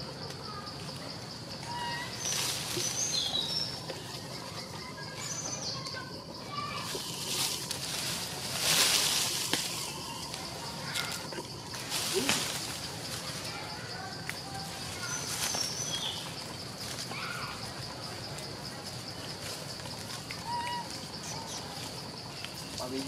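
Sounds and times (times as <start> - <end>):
birds chirping: 0.0 - 23.0
insect drone: 0.0 - 23.0.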